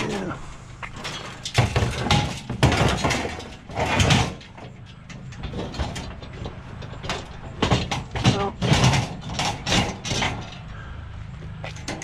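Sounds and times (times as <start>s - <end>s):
scrap metal clanking and scraping: 0.0s - 12.0s.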